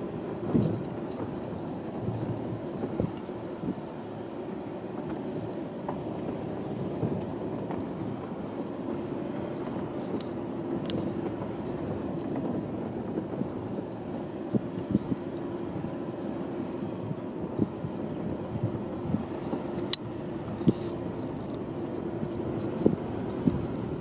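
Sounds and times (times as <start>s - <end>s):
vehicle engine and tyre noise: 0.0s - 24.0s.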